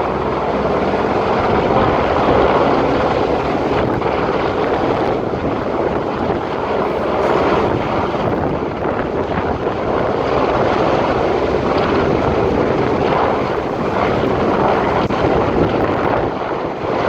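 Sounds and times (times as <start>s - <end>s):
helicopter rotor roar: 0.0s - 17.0s
wind gusting on microphone: 0.0s - 17.0s.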